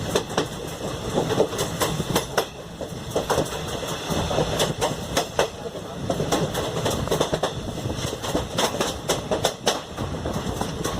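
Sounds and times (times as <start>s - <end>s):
train wheels clattering over rail joints: 0.0s - 10.9s.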